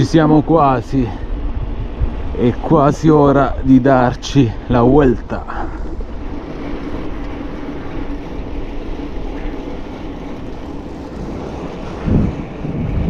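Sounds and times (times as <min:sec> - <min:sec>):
bicycle tyres on asphalt: 0:00.0 - 0:13.0
wind rushing: 0:00.0 - 0:13.0.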